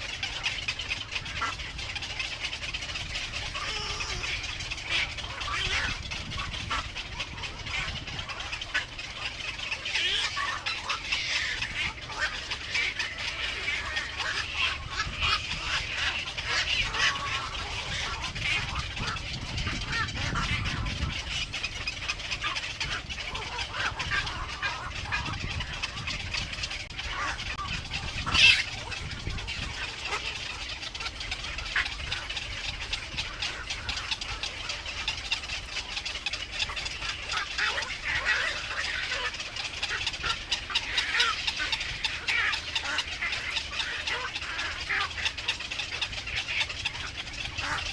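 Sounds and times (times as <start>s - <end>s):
baby birds cheeping: 0.0s - 47.9s.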